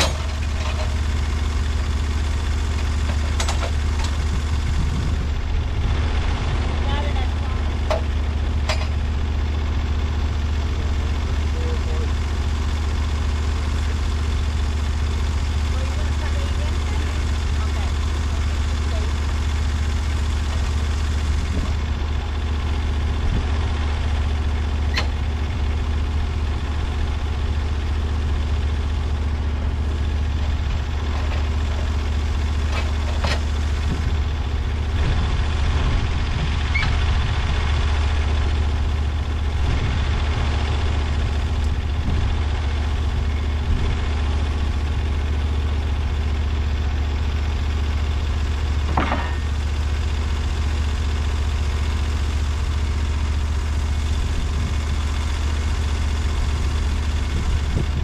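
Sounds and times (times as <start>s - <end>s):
sawmill engine idling: 0.0s - 58.0s.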